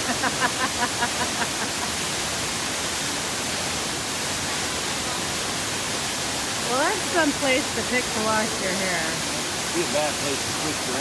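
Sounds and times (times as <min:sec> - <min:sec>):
waterfall roaring into pool: 0:00.0 - 0:11.0.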